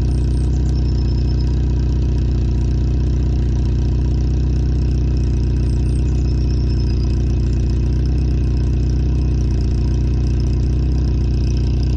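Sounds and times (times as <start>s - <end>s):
car engine idling with clatter: 0.0s - 11.9s.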